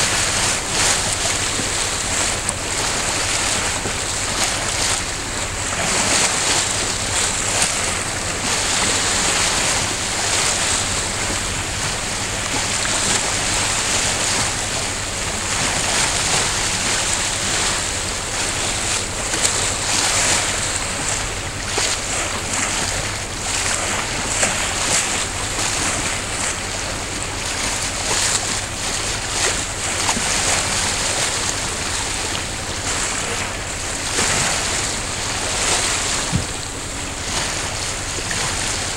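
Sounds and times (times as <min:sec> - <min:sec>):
sea water splashing around boat: 0:00.0 - 0:38.9.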